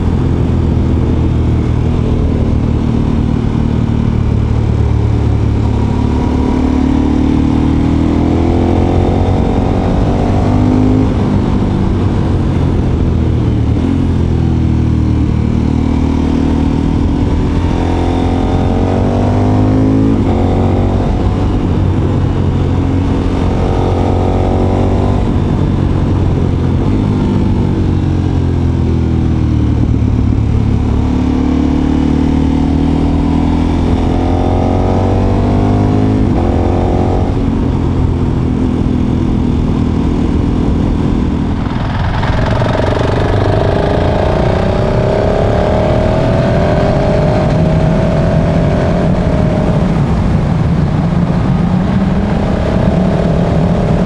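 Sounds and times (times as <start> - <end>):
higher-pitched motorcycle engine: 0.0 - 54.0
motorcycle engine accelerating: 0.0 - 54.0.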